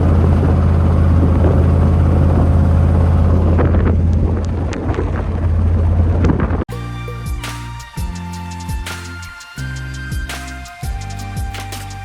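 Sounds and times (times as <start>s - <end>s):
pickup truck engine drone: 0.0s - 12.0s
wind noise: 0.0s - 12.0s.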